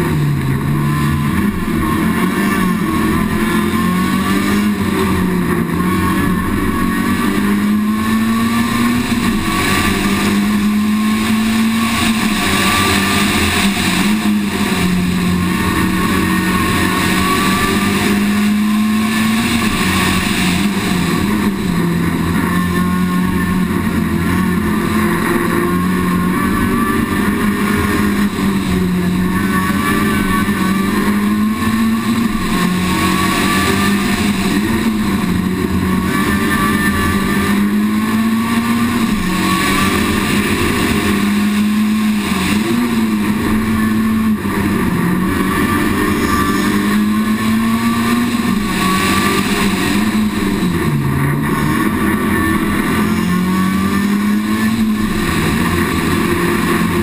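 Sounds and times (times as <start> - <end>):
rally car engine racing: 0.0 - 57.0.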